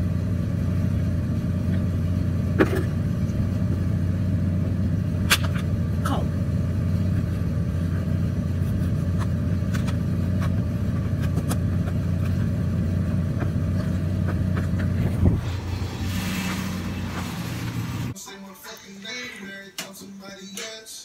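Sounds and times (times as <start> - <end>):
car rumbling on the move: 0.0 - 18.2.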